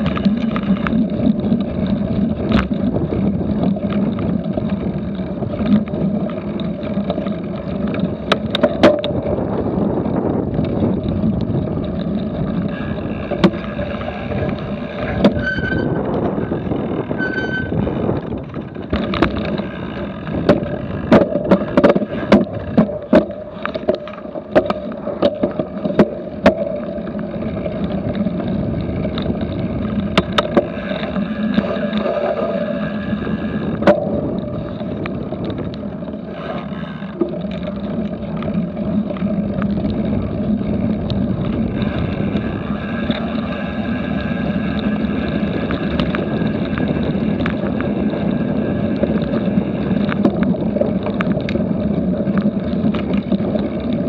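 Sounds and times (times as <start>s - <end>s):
bike rattling and knocking: 0.0s - 54.0s.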